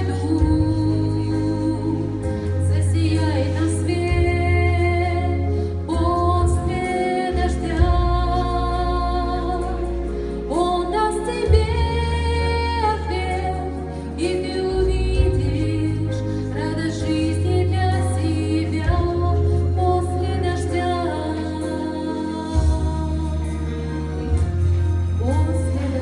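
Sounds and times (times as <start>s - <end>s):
steady bass accompaniment: 0.0s - 26.0s.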